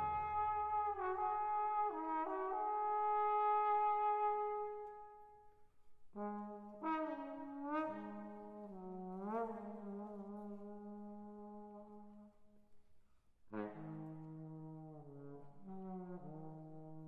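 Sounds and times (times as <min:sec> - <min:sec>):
solo trombone: 0:00.0 - 0:05.5, 0:06.1 - 0:12.4, 0:13.5 - 0:17.0.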